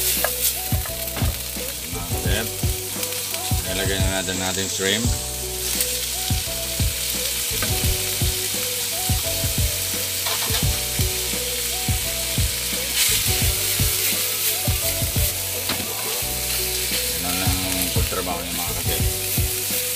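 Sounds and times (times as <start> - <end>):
food sizzling in hot oil: 0.0 - 19.9.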